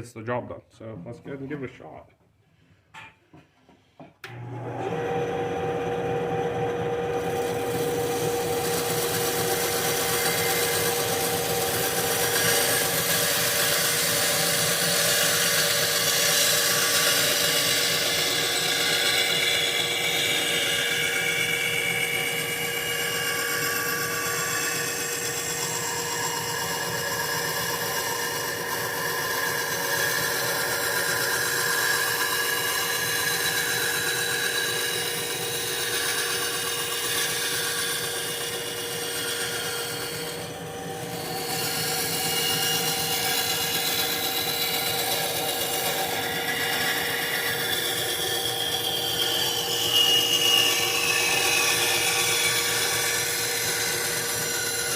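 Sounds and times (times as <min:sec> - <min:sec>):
bandsaw cutting wood: 0:04.3 - 0:54.9.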